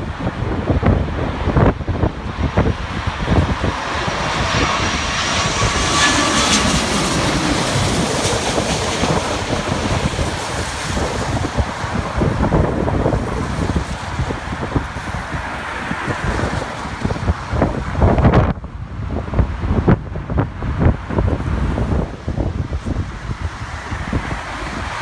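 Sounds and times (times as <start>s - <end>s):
jet airliner roaring overhead: 0.0s - 25.0s
wind buffeting microphone: 0.0s - 25.0s.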